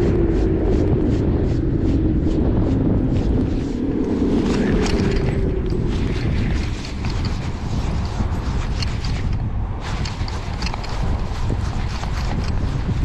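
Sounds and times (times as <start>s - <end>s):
low hum: 0.0s - 13.0s
wind buffeting microphone: 0.0s - 13.0s.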